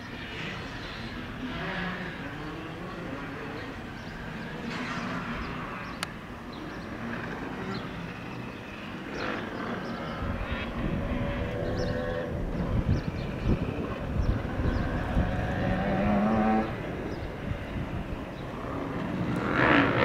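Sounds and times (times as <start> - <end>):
distant jet engine rumble: 0.0 - 20.0.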